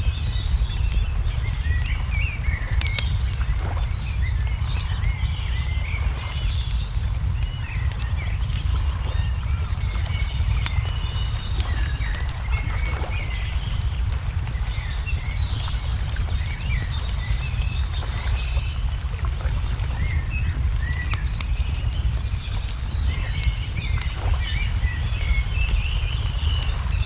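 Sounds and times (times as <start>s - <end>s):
low rumble: 0.0s - 27.0s
small birds chirping: 0.0s - 27.0s
wood fire crackling and popping: 0.0s - 27.0s.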